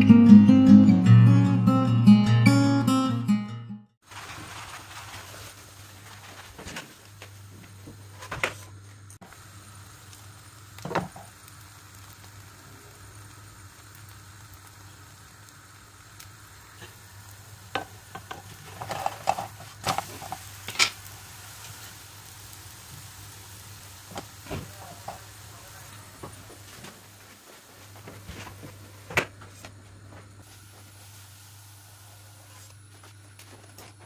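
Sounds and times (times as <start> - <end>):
batter sizzling in a frying pan: 4.0 - 8.2, 9.2 - 29.2, 30.4 - 34.0.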